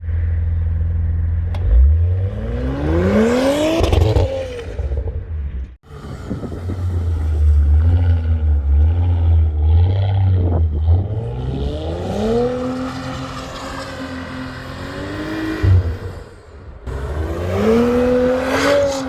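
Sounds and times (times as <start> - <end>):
car engine revving: 1.2 - 19.0.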